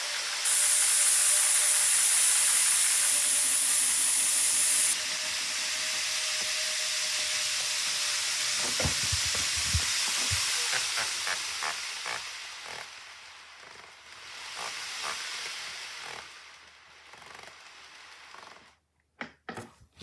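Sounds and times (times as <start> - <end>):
model train wheels and motor hissing: 0.0 - 19.2.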